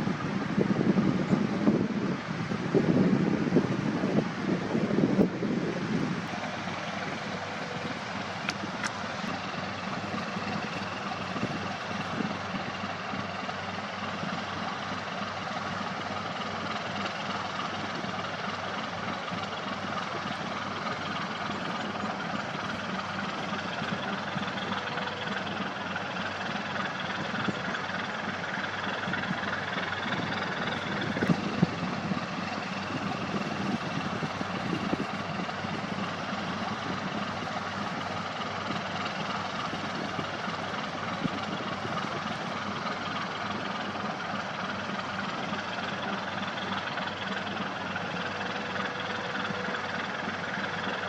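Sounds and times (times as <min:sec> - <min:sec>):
diesel engine droning: 0:00.0 - 0:51.0.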